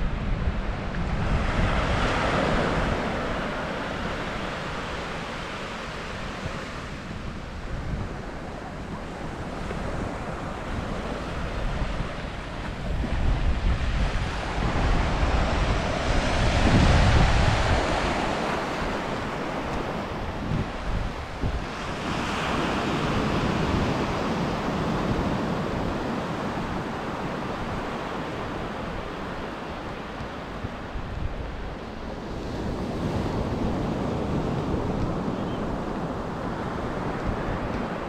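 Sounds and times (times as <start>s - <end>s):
wind buffeting microphone: 0.0s - 38.0s
sea waves breaking on beach: 0.1s - 38.0s.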